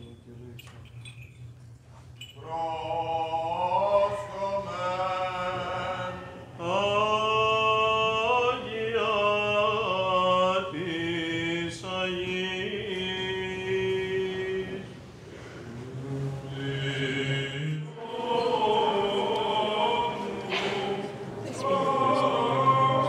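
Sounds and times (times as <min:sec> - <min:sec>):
men singing slow chant: 0:02.4 - 0:14.9, 0:15.9 - 0:23.0.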